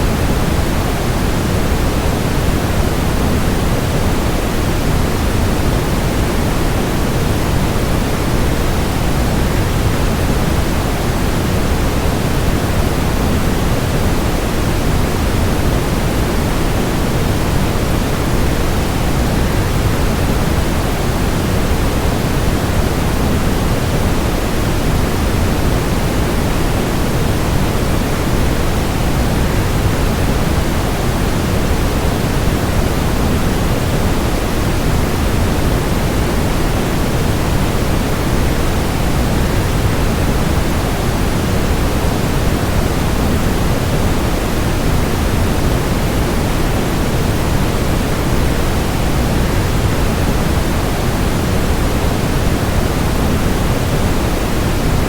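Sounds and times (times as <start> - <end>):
white noise: 0.0 - 55.0.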